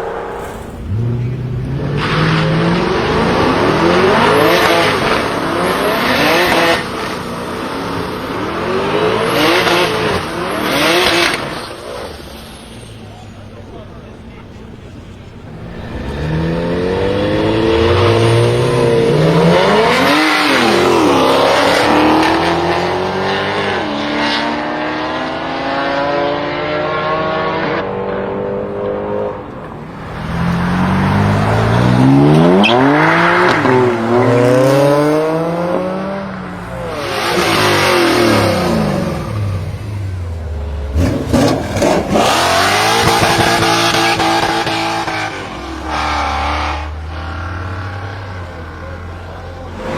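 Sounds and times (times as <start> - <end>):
car engine revving and accelerating: 0.0 - 12.3, 15.3 - 49.9.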